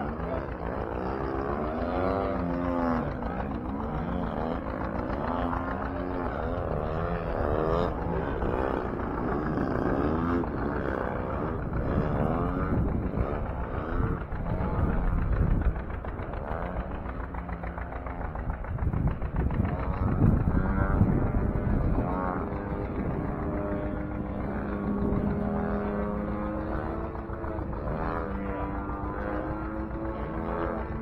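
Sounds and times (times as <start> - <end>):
model airplane engines: 0.0 - 31.0.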